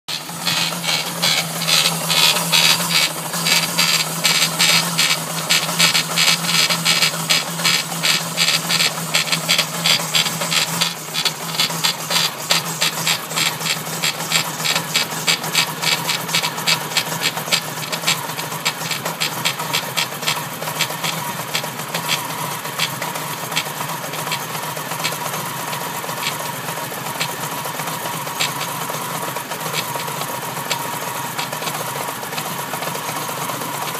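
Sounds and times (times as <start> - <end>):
car engine running: 0.0 - 33.9
rhythmic engine ticking knock: 0.1 - 33.9.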